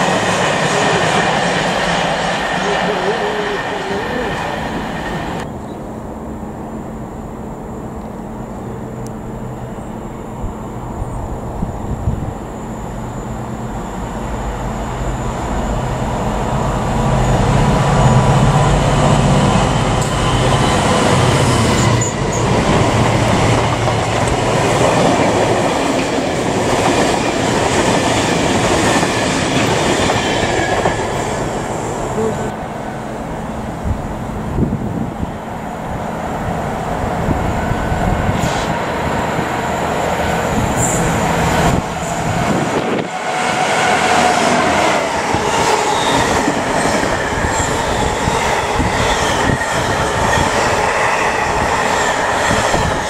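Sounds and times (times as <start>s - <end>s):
diesel locomotive engine drone: 0.0s - 53.0s
freight wagons rumbling on rails: 0.0s - 53.0s.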